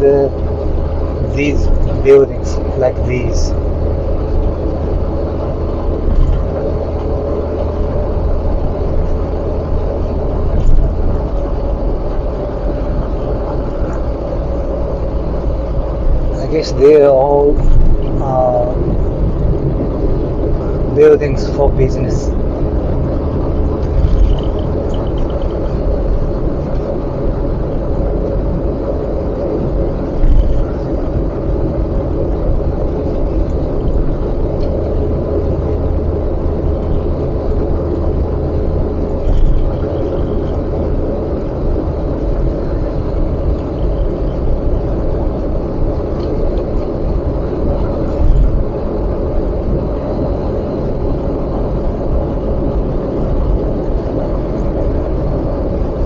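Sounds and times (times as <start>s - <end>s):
car road noise and engine hum: 0.0s - 56.0s.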